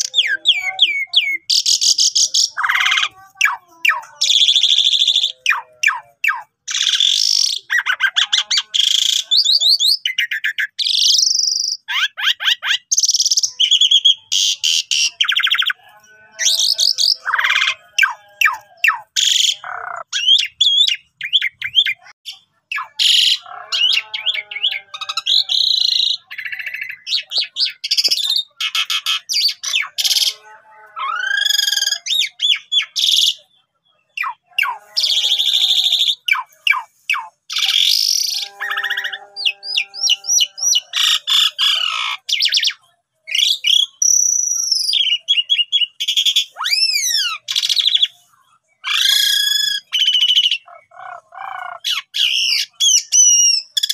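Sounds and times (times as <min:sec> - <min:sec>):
starling singing: 0:00.0 - 0:53.9.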